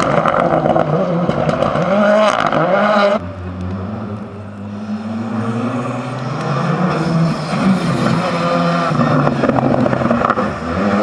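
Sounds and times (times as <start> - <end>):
rally car engine revving: 0.0 - 11.0
rally car engine running steadily: 0.0 - 11.0.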